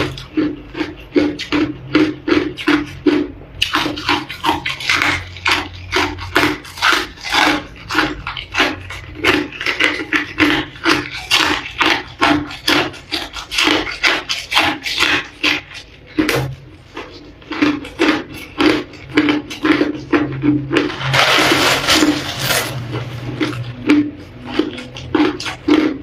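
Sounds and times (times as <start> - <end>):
ice being chewed and crunched: 0.0 - 26.0.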